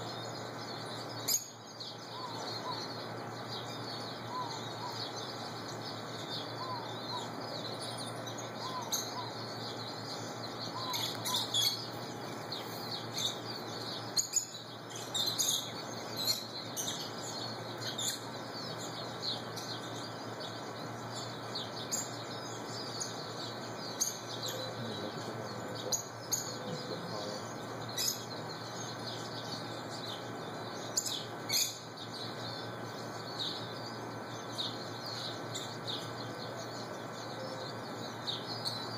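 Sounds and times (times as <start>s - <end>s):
lovebirds chirping: 0.0s - 38.9s
shrill bird calls: 0.0s - 38.9s.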